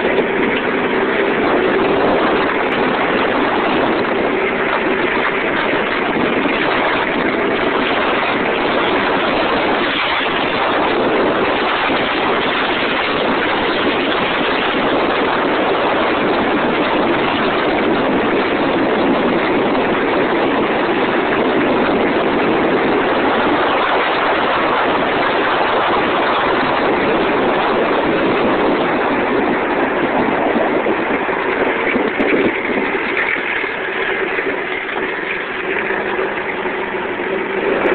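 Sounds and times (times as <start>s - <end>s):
go-kart engine running: 0.0s - 37.9s
wind rushing on microphone: 0.0s - 37.9s.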